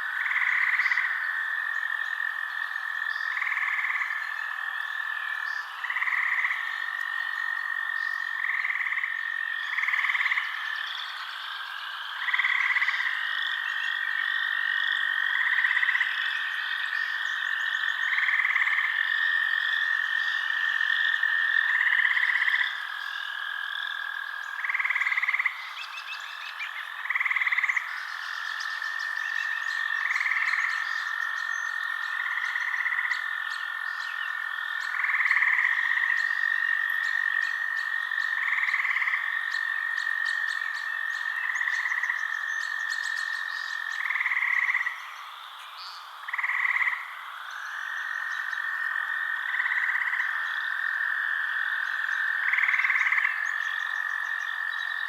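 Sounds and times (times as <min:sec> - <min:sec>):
frogs trilling: 0:00.0 - 0:55.0
short frog calls: 0:00.0 - 0:55.0.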